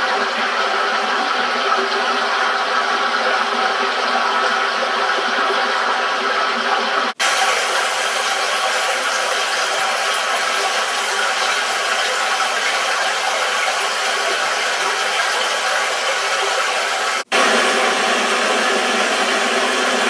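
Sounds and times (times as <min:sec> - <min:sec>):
water rushing in a stream: 0:00.0 - 0:20.0.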